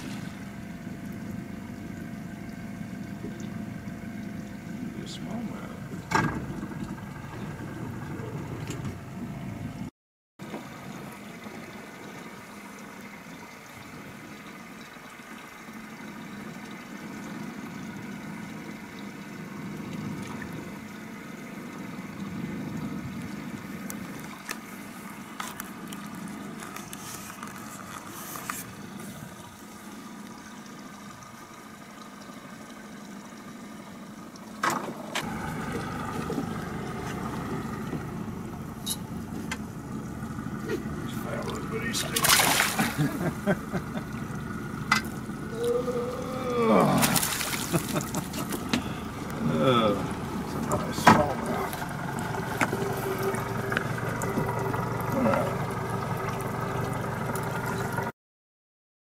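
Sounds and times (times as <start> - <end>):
boat motor running: 0.0 - 58.1
water lapping at hull: 0.0 - 58.1.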